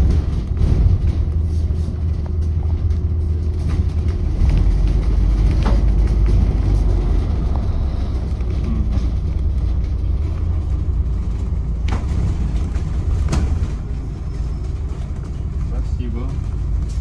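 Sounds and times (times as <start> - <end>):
bus engine and road rumble: 0.0 - 17.0
sharp knocks or rattles: 0.0 - 17.0.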